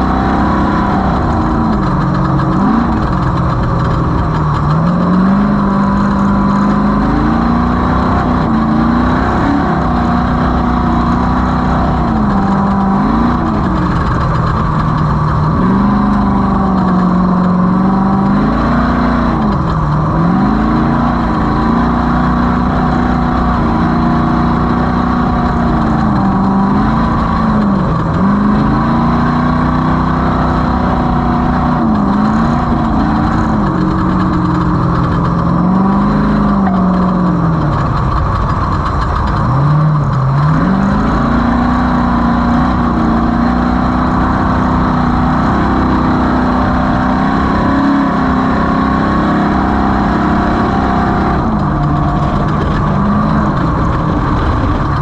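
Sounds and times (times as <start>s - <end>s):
low rumble: 0.0s - 48.6s, 49.4s - 55.0s
race vehicle engine revving: 0.0s - 55.0s.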